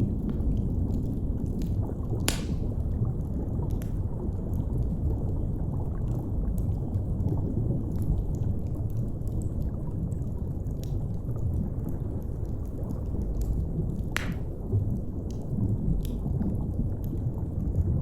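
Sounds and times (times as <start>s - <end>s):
deep underwater rumble: 0.0s - 18.0s
fire crackling and popping: 0.0s - 18.0s.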